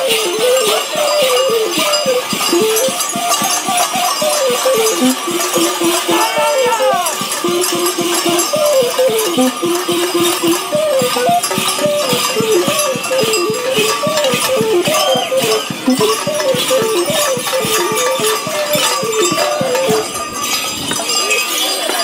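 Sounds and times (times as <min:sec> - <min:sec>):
jangling bells: 0:00.0 - 0:22.0
quick folk dance tune: 0:00.0 - 0:22.0
steady drum beat: 0:00.0 - 0:22.0.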